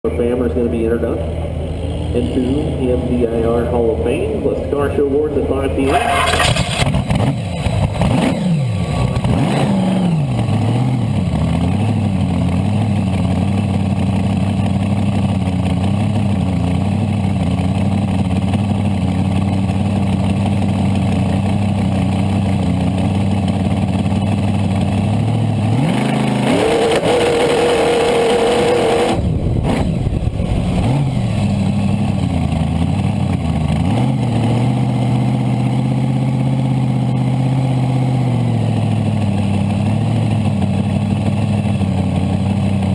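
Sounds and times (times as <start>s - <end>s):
dragster engine idling and revving: 0.0s - 42.9s.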